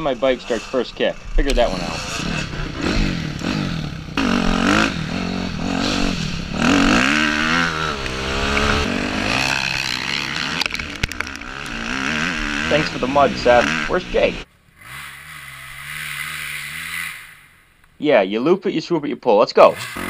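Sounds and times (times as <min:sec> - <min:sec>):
dirt bike engine revving: 0:00.0 - 0:17.8, 0:19.6 - 0:20.0.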